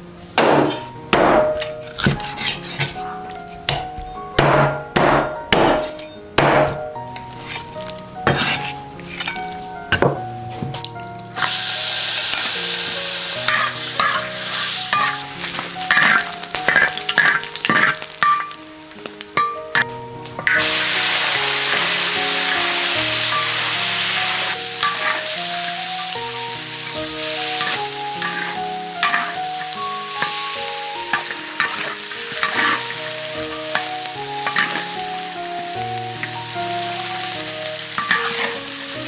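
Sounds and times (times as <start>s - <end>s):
clattering stirring strokes: 0.7s - 4.1s, 7.1s - 39.0s
food sizzling in hot oil: 7.1s - 39.0s.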